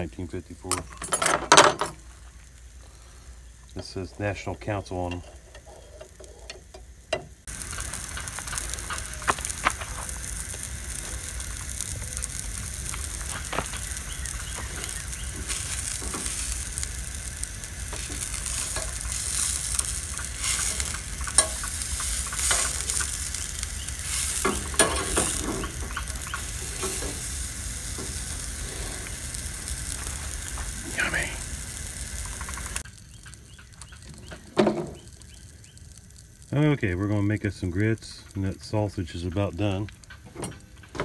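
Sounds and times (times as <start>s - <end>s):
sausages sizzling in skillet: 1.9s - 41.0s.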